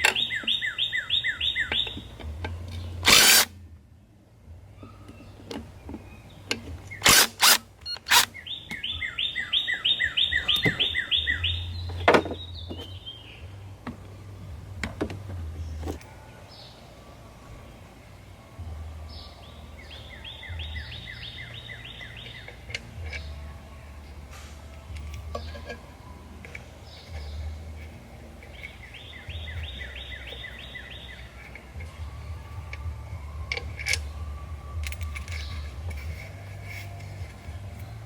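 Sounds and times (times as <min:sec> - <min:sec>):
bird chirping: 0:00.0 - 0:03.4, 0:04.6 - 0:14.6, 0:15.6 - 0:38.0
steady low hum: 0:00.0 - 0:38.0.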